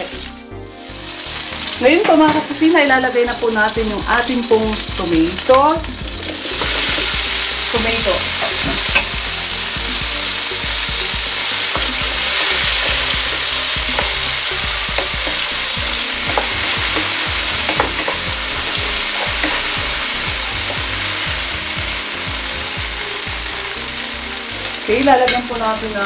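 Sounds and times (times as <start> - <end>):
tomatoes sizzling in hot oil: 0.0 - 26.0.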